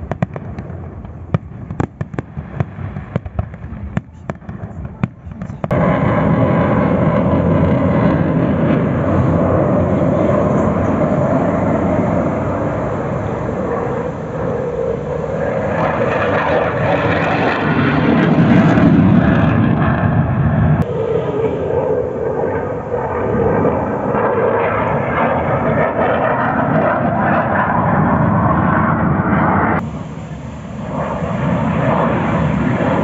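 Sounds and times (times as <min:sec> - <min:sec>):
jet aircraft flying past: 0:00.0 - 0:33.0.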